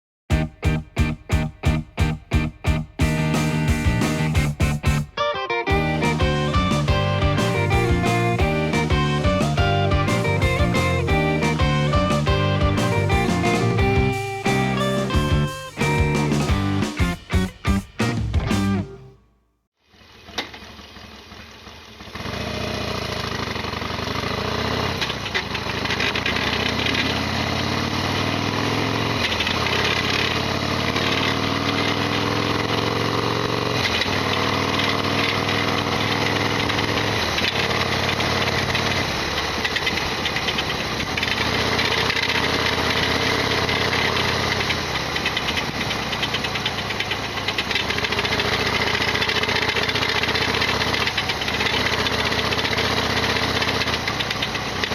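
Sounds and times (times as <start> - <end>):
motorcycle engine shifting gears: 0.3 - 19.1, 20.0 - 54.9.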